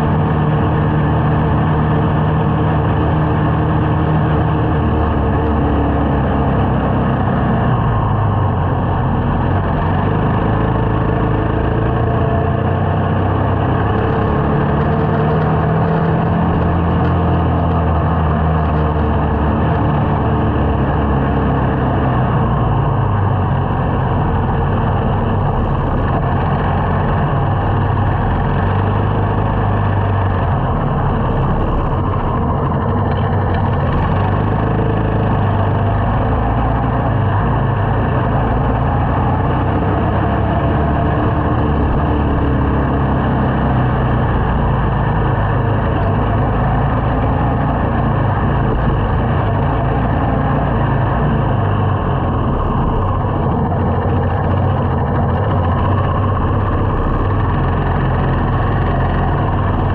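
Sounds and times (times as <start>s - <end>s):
motorcycle engine running: 0.0s - 59.9s
rush of riding noise: 0.0s - 59.9s.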